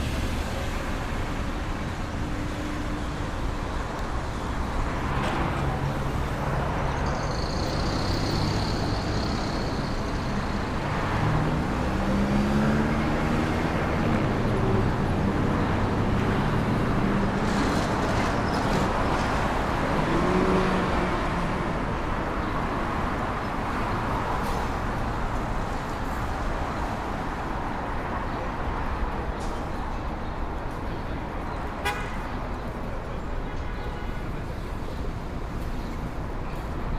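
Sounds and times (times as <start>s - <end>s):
passing cars: 0.0s - 36.9s.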